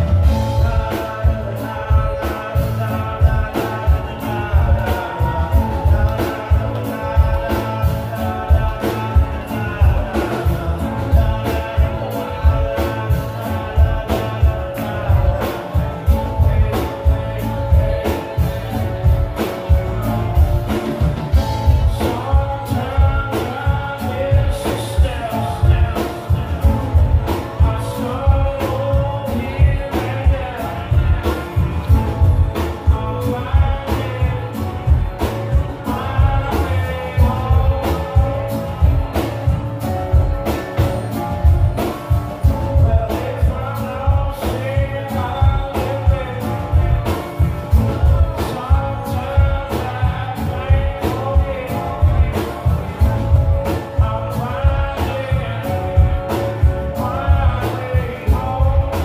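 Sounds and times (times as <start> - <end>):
acoustic guitar: 0.0 - 59.0
drum kit beat: 0.0 - 59.0
electric bass: 0.0 - 59.0
keyboard: 0.0 - 59.0
person singing: 0.0 - 59.0.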